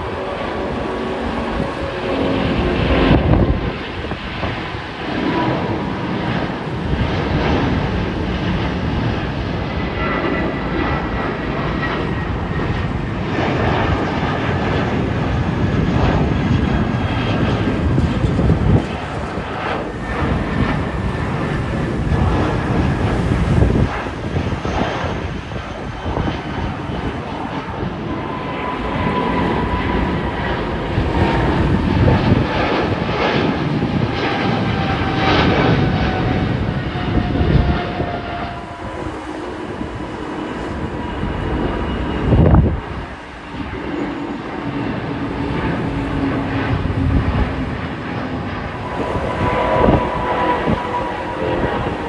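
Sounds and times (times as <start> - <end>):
jet engines of airliners climbing: 0.0 - 52.0.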